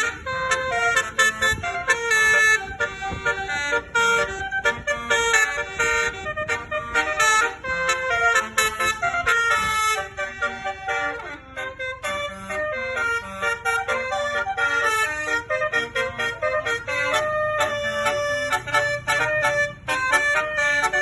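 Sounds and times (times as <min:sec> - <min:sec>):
musical bus horn melody: 0:00.0 - 0:21.0.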